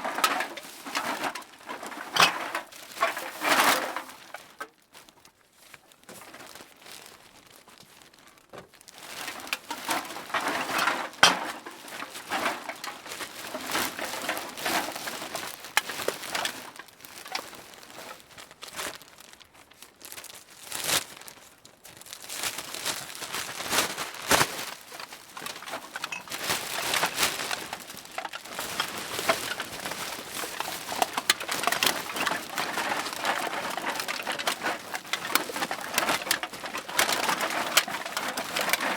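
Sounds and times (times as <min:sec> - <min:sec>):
bag crinkling and rustling: 0:00.0 - 0:38.9.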